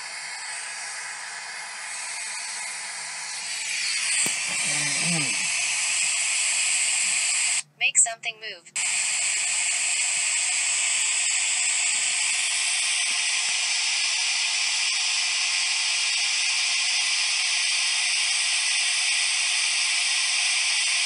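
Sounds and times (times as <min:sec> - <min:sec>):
static hiss: 0:00.0 - 0:07.6, 0:08.8 - 0:21.0.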